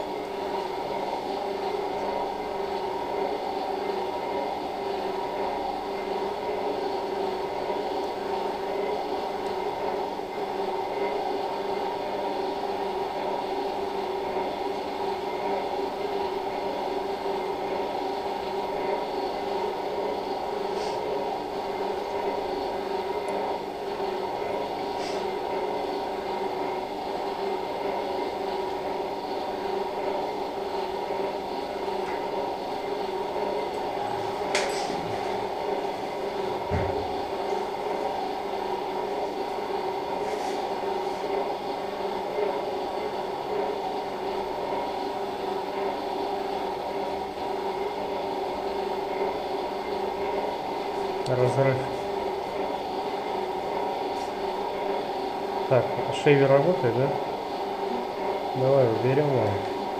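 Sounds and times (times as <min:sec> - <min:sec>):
machine hum with steady tone: 0:00.0 - 0:59.9.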